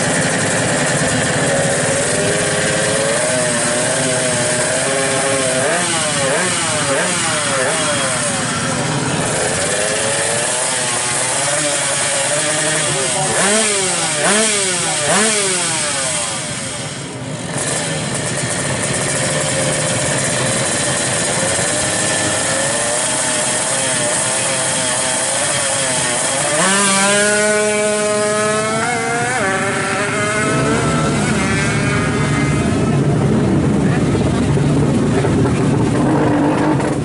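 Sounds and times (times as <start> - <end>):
two-stroke motorcycle engine revving: 0.0 - 37.0.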